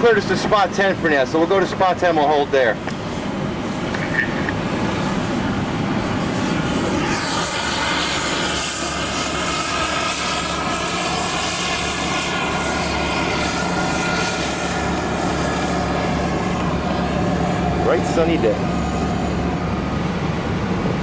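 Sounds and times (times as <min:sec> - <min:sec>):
jet turbine noise: 0:00.0 - 0:21.0.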